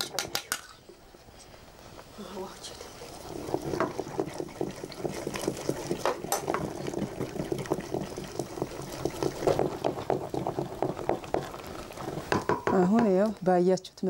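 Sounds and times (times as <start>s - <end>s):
porridge bubbling: 0.0s - 14.0s.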